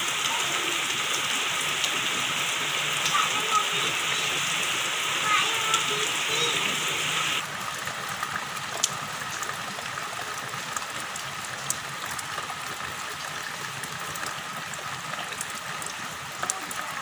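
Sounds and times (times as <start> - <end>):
rain falling on shallow water: 0.0 - 17.0.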